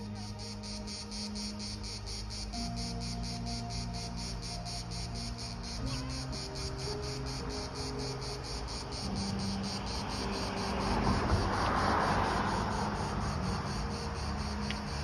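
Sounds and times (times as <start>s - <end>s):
broad rush of noise: 0.0s - 15.0s
cicadas buzzing: 0.0s - 15.0s.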